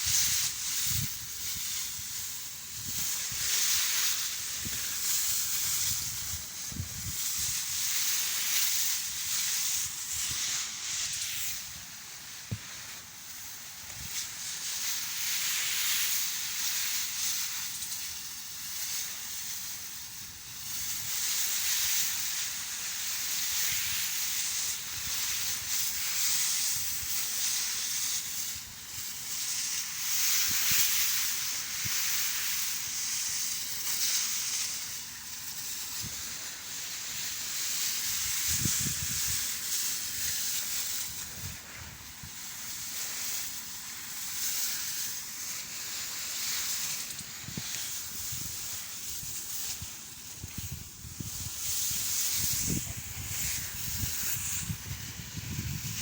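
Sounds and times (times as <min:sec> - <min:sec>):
crop sprayer hissing: 0:00.0 - 0:56.0.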